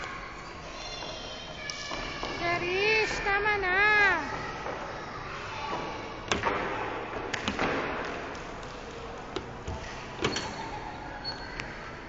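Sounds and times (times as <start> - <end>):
room noise: 0.0 - 12.0.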